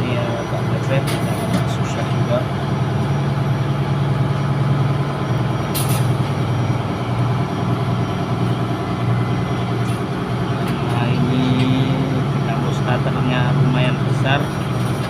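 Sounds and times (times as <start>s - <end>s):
diesel machinery droning: 0.0s - 15.0s.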